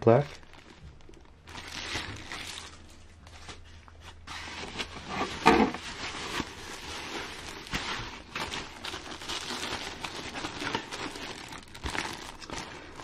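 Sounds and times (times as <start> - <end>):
foam and plastic bags rustling: 0.0 - 13.0.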